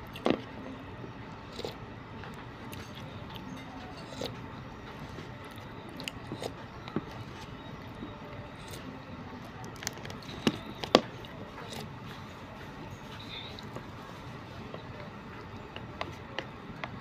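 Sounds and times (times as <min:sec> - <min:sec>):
chewing food: 0:00.0 - 0:00.6, 0:01.3 - 0:17.0.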